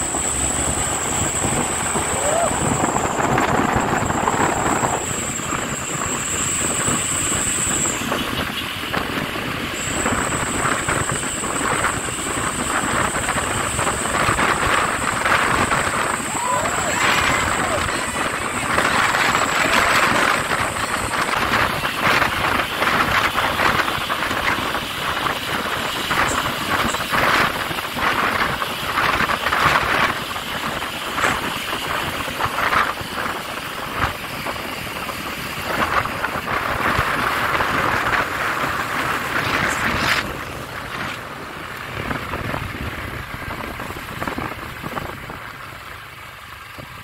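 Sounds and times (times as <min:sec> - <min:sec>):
wind rushing: 0:00.0 - 0:45.4
road noise: 0:00.0 - 0:47.0.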